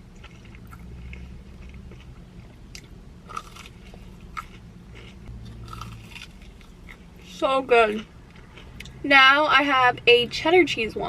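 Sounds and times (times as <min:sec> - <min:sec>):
chewing and crunching food: 0:00.0 - 0:09.0.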